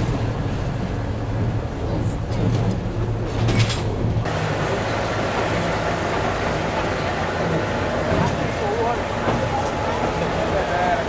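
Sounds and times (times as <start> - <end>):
locomotive diesel engine: 0.0 - 11.0.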